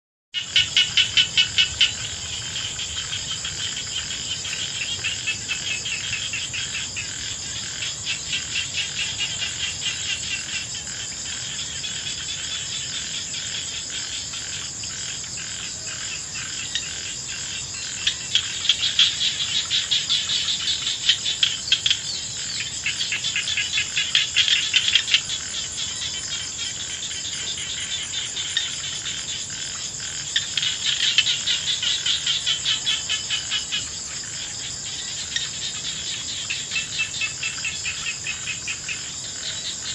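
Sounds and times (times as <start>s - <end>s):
insects trilling in chorus: 0.4s - 39.9s.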